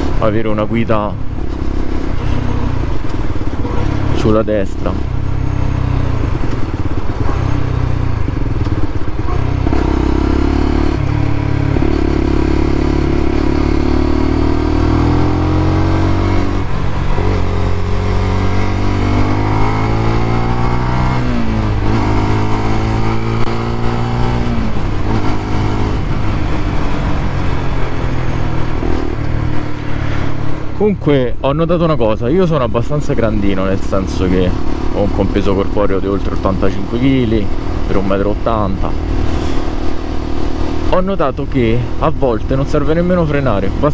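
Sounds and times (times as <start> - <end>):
motorcycle engine revving: 0.0 - 30.8, 31.5 - 43.9.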